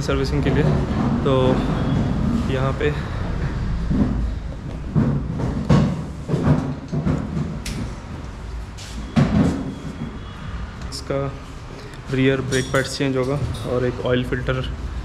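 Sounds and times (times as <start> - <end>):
workshop knocks and clatter: 0.0 - 10.5, 12.1 - 13.9.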